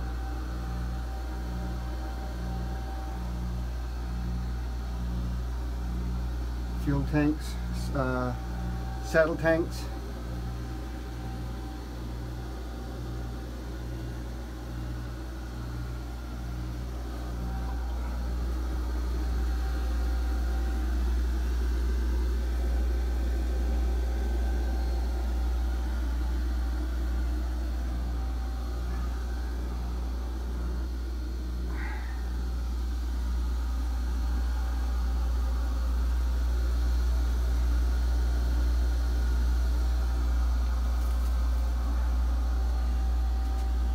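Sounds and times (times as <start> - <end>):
engine room machinery hum: 0.0 - 43.9.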